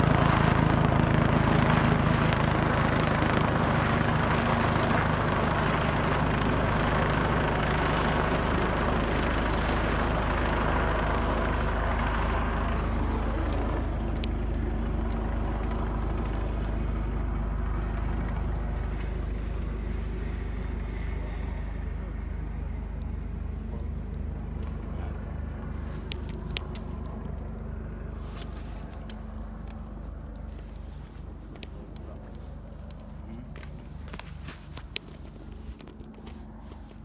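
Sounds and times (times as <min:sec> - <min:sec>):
helicopter rotor and turbine: 0:00.0 - 0:37.0.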